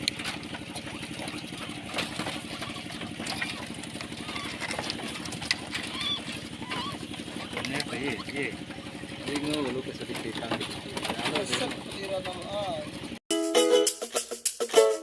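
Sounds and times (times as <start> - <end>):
engine idling: 0.0 - 13.2.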